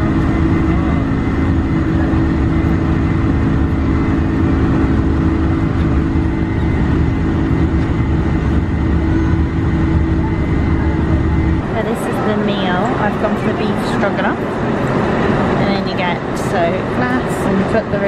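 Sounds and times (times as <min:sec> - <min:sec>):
low rumble: 0:00.0 - 0:17.1
constant hum: 0:00.0 - 0:18.0
jet engines droning: 0:00.0 - 0:18.0.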